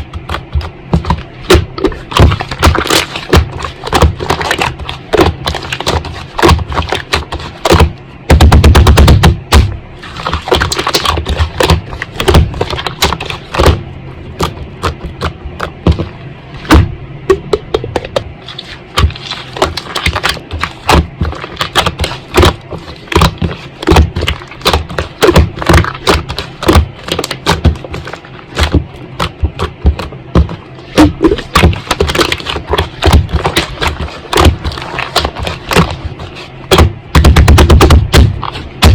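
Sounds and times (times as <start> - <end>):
slime squished crackling and popping: 0.0 - 13.8, 18.5 - 38.9.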